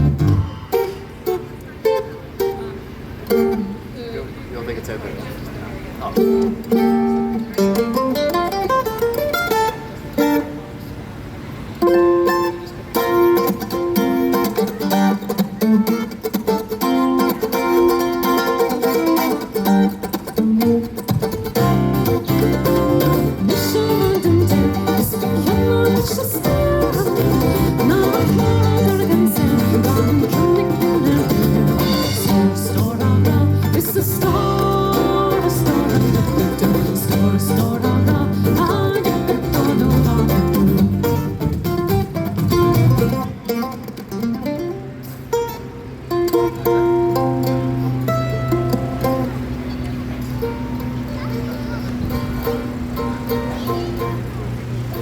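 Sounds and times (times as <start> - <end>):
plucked string melody: 0.0 - 4.0, 6.1 - 55.0
band playing with bass: 0.0 - 55.0.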